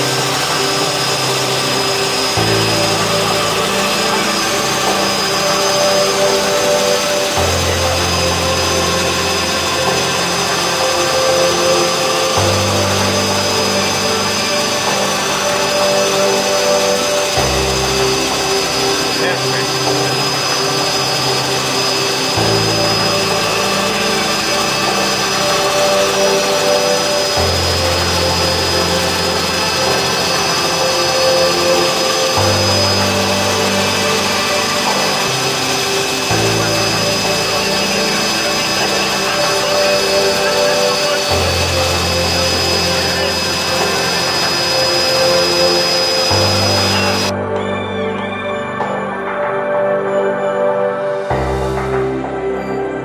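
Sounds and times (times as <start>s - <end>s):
helicopter in flight: 0.0s - 47.3s
high steady whine: 0.0s - 53.0s
music of held chords: 0.0s - 53.0s.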